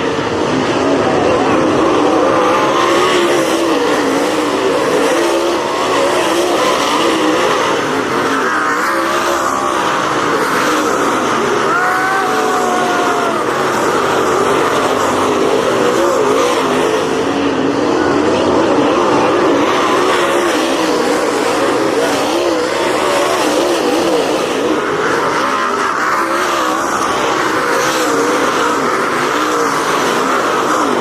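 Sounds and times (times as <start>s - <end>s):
race car engines: 0.0s - 31.0s.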